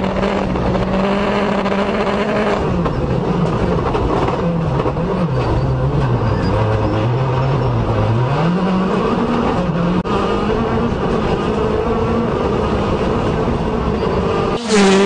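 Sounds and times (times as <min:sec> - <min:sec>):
gravel and road noise: 0:00.0 - 0:15.0
rally car engine: 0:00.0 - 0:15.0.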